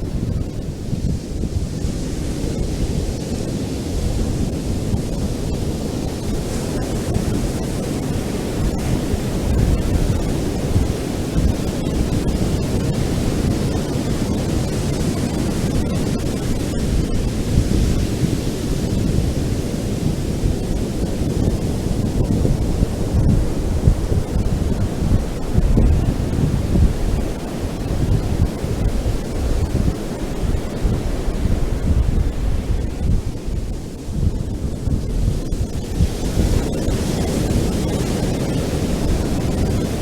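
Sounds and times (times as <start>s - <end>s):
ocean surf washing onto beach: 0.0s - 40.0s
wind buffeting microphone: 0.0s - 40.0s.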